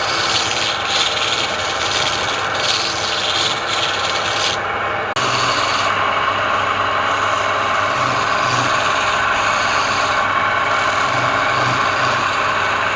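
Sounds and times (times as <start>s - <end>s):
low motor hum: 0.0s - 12.9s
wood being worked on lathe: 0.0s - 12.9s.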